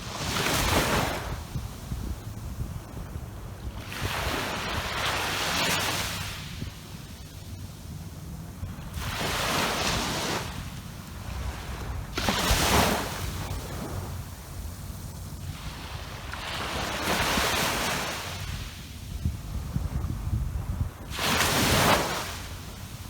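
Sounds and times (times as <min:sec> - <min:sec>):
sea waves breaking on beach: 0:00.0 - 0:07.4, 0:08.2 - 0:19.8, 0:21.0 - 0:23.0.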